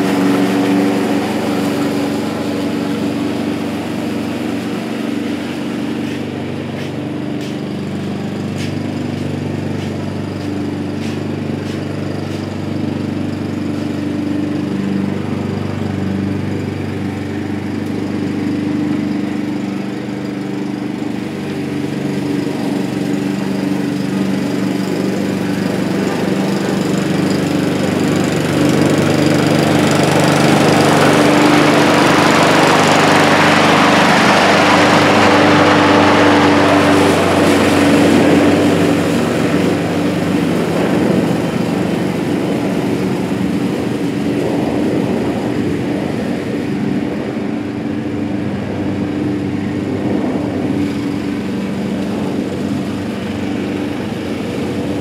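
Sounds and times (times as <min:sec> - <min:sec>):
lawn mower running: 0:00.0 - 0:55.0.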